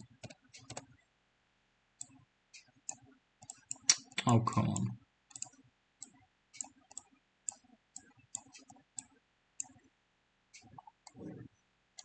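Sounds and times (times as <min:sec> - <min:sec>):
computer mouse clicking: 0:00.0 - 0:01.0, 0:02.0 - 0:09.9, 0:10.6 - 0:11.4.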